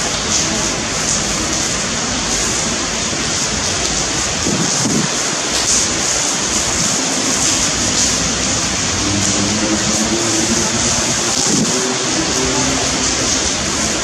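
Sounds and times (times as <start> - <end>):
torrential rain pouring: 0.0 - 14.0.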